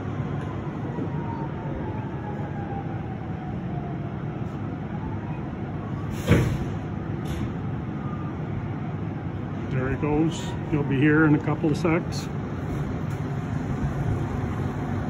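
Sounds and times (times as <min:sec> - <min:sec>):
faint fire truck siren: 0:00.0 - 0:15.0
traffic rumble: 0:00.0 - 0:15.0.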